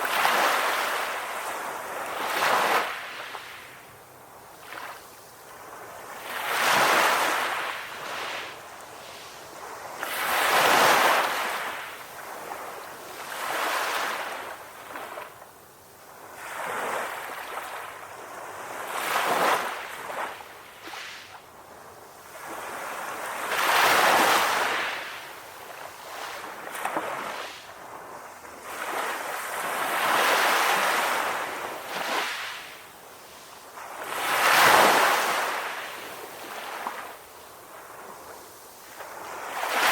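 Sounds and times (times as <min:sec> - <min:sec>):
sea waves breaking on beach: 0:00.0 - 0:03.8, 0:04.6 - 0:15.4, 0:22.3 - 0:39.9.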